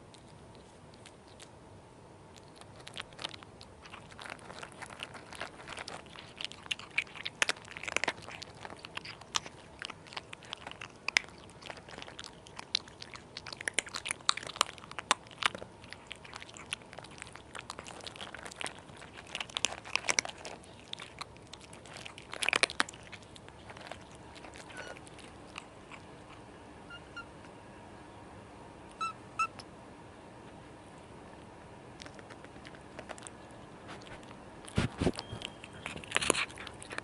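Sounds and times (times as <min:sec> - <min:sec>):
kittens crunching kibble: 0:00.0 - 0:26.6, 0:31.0 - 0:37.0.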